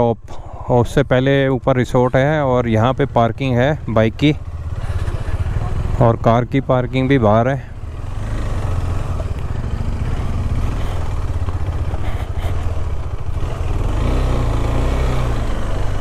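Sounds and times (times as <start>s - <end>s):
motorcycle engine running: 0.2s - 16.0s.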